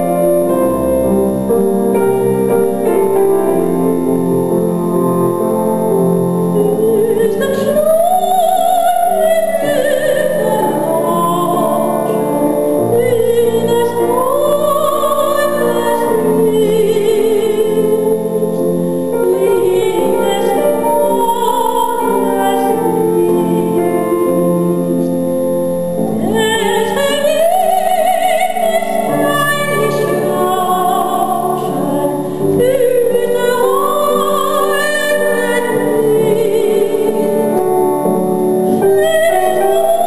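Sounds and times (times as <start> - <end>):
grand piano: 0.0 - 40.0
woman singing opera: 2.3 - 25.4, 26.0 - 40.0.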